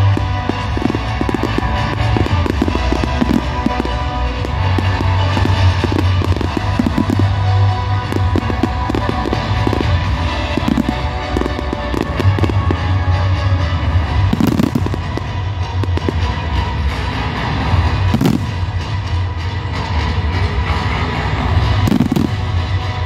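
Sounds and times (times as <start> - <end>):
fireworks bangs: 0.0 - 19.3, 21.7 - 23.0
fireworks crackle: 0.0 - 19.4, 21.4 - 23.0.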